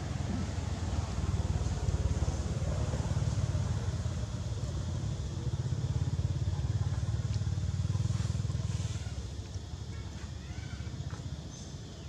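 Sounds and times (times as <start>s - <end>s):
low pulsing engine rumble: 0.0s - 10.1s.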